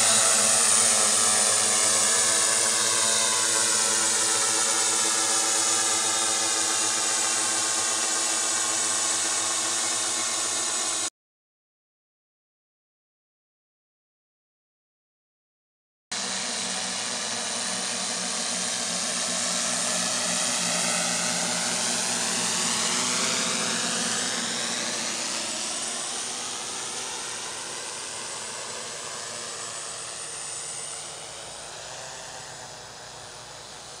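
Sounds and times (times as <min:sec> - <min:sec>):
drone propellers buzzing: 0:00.0 - 0:11.1, 0:16.2 - 0:34.0.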